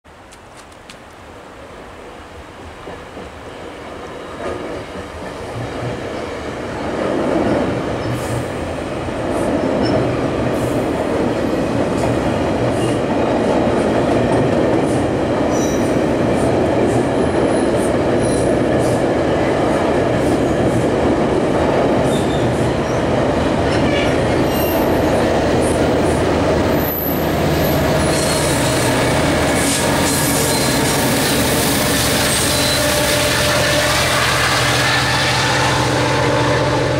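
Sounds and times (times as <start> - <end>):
train rumbling over bridge: 0.1 - 36.9.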